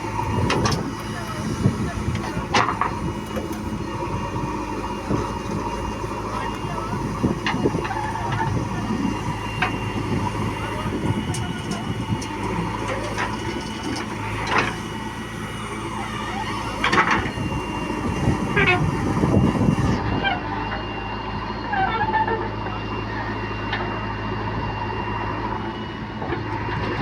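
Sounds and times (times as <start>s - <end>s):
diesel backhoe loader running: 0.0s - 27.0s.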